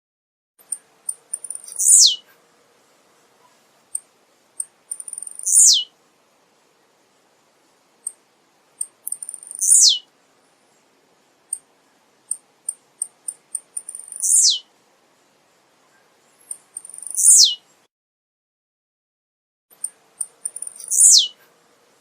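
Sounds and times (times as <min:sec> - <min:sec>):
grassquit singing: 0:00.6 - 0:02.4, 0:03.0 - 0:17.9, 0:19.7 - 0:22.0.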